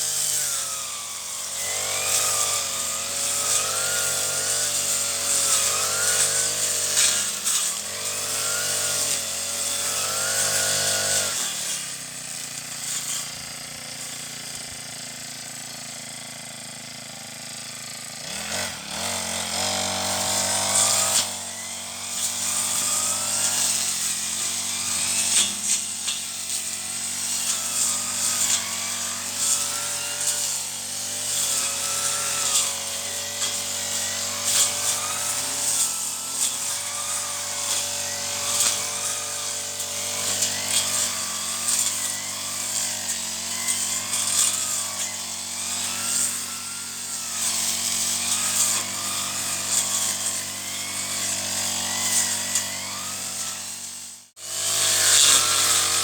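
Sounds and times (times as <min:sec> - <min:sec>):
brush cutter engine: 0:00.0 - 0:56.0.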